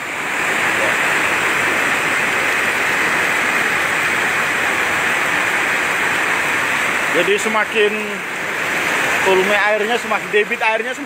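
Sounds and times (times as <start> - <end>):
floodwater rushing over road: 0.0 - 11.0
heavy rain: 0.0 - 11.0.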